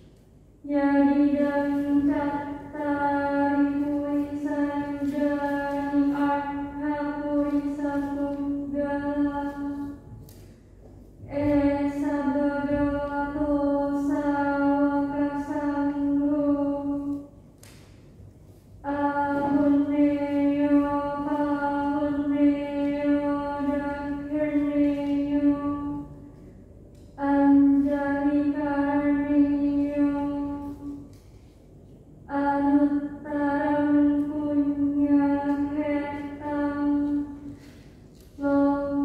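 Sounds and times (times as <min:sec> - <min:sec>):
woman chanting: 0:00.6 - 0:10.2, 0:11.2 - 0:17.5, 0:18.7 - 0:26.4, 0:27.1 - 0:31.2, 0:32.2 - 0:39.0.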